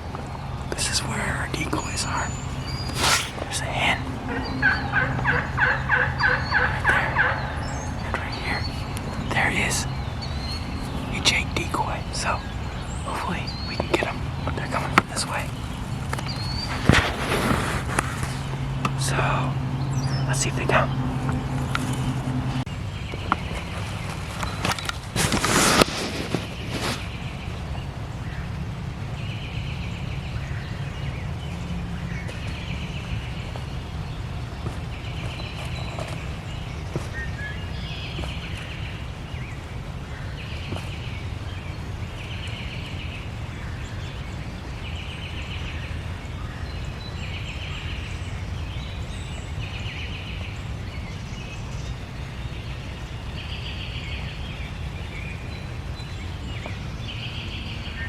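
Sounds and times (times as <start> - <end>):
low rumble: 0.0 - 46.7.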